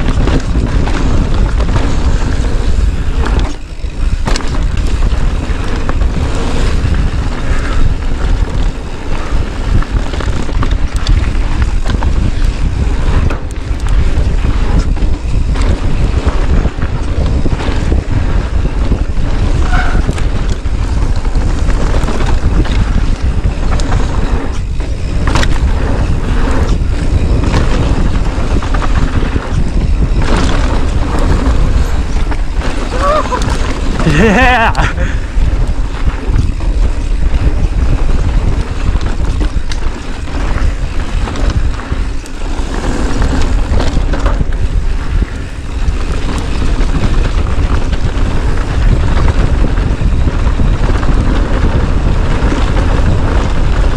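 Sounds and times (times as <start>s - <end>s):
bike rattles and knocks: 0.0s - 53.9s
wind buffeting microphone: 0.0s - 53.9s.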